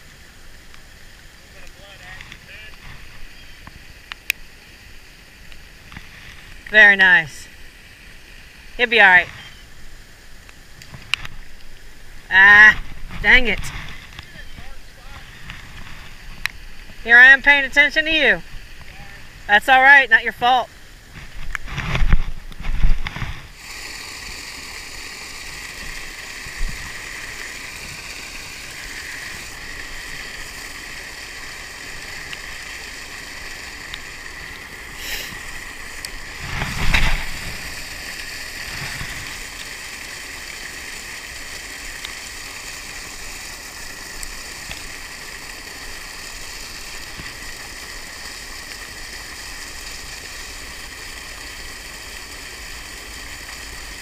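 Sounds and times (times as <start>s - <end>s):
rain on water and jacket: 0.0s - 54.0s.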